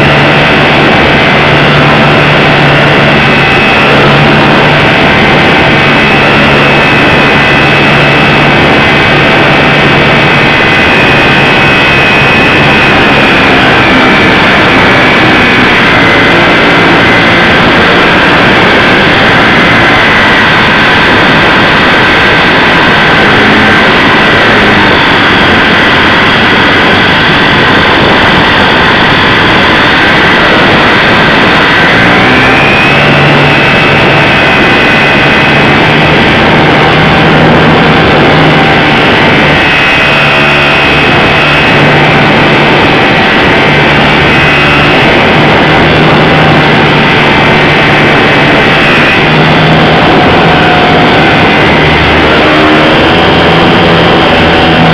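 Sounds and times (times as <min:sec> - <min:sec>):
electric motor and propeller whine: 0:00.0 - 0:54.9
wind rush on microphone: 0:00.0 - 0:54.9.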